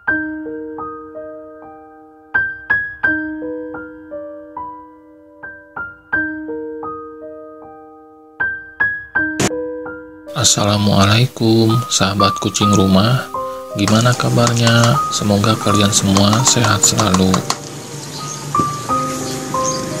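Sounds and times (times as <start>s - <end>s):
slow piano tune: 0.0s - 20.0s.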